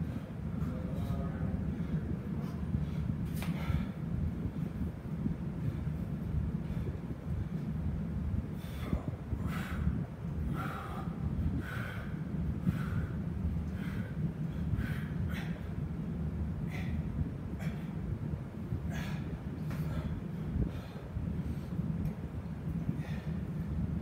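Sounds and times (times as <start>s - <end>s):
man breathing hard: 0.0s - 24.0s
steady low hum: 0.0s - 24.0s.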